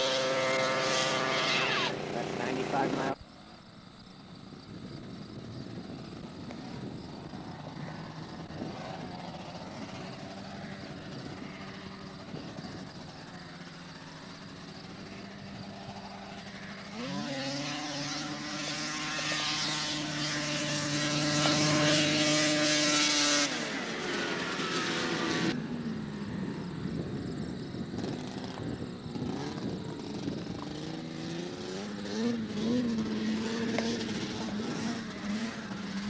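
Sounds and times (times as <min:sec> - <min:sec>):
snowmobile engine roaring: 0:00.0 - 0:03.2, 0:05.5 - 0:36.0.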